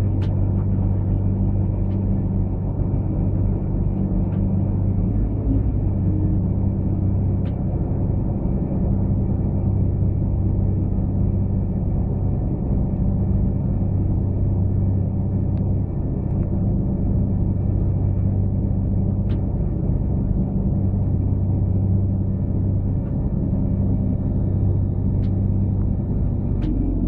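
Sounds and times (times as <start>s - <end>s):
train rumble inside carriage: 0.0s - 27.0s.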